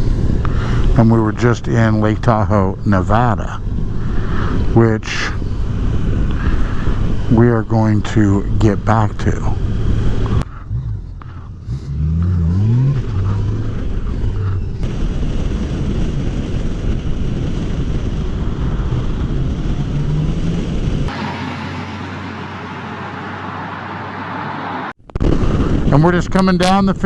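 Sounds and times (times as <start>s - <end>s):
motorcycle engine: 0.0s - 25.0s
wind rushing past: 0.0s - 26.5s.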